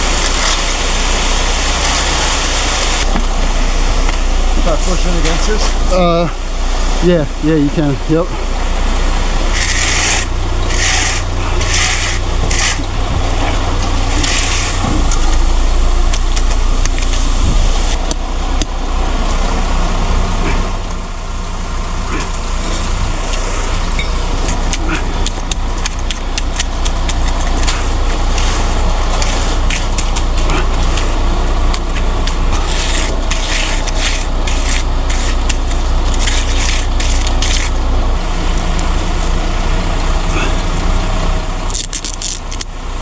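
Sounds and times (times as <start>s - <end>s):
heavy equipment engine running: 0.0s - 43.0s.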